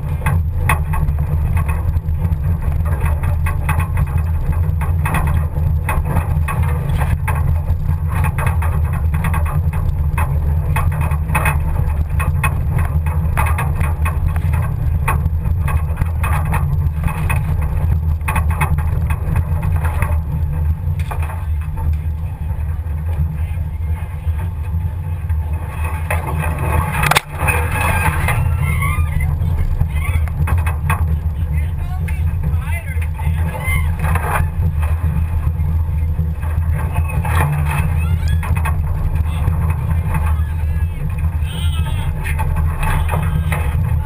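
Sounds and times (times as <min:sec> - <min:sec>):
knocks and rattles over bumps: 0:00.0 - 0:44.0
vehicle engine drone: 0:00.0 - 0:44.0.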